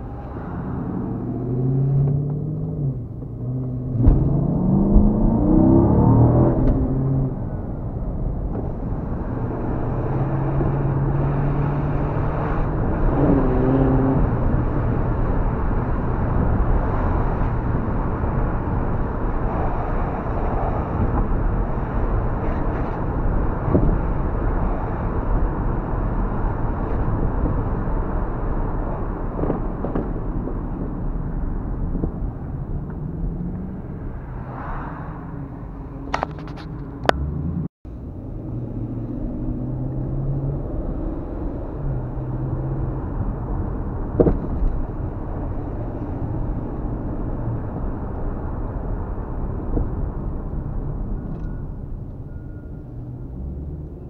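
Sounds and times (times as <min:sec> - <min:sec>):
car engine revving: 0:00.0 - 0:50.7
road noise: 0:00.0 - 0:54.0.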